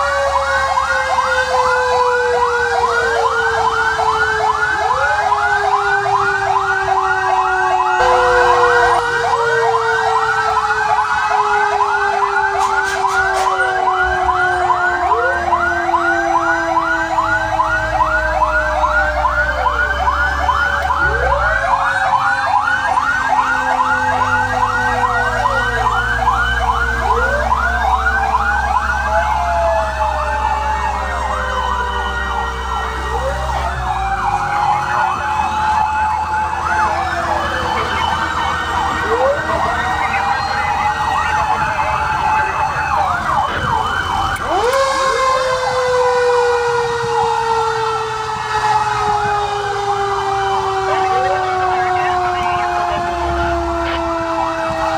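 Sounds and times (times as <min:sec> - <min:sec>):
fire truck sirens: 0:00.0 - 0:54.9
truck engine rumbling: 0:00.0 - 0:54.9.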